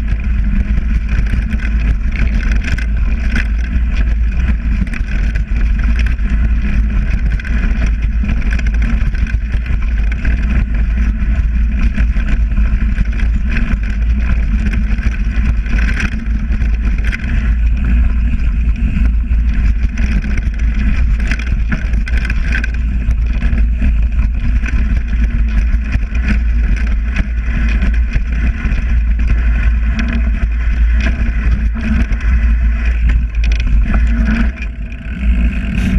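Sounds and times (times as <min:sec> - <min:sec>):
bike clicks and rattles: 0:00.0 - 0:35.9
tyre noise on dirt trail: 0:00.0 - 0:35.9
wind buffeting microphone: 0:00.0 - 0:35.9.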